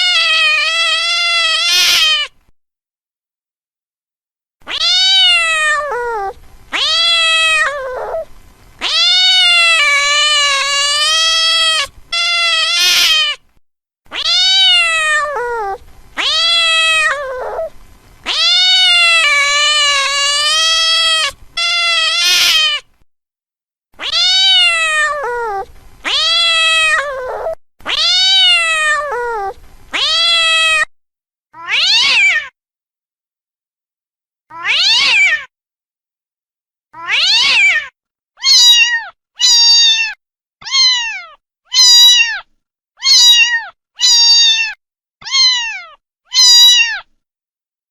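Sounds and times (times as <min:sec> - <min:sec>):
cat meowing: 0:00.0 - 0:02.4, 0:04.6 - 0:13.5, 0:14.1 - 0:22.9, 0:24.0 - 0:30.9, 0:31.6 - 0:32.6, 0:34.5 - 0:35.5, 0:37.0 - 0:47.1.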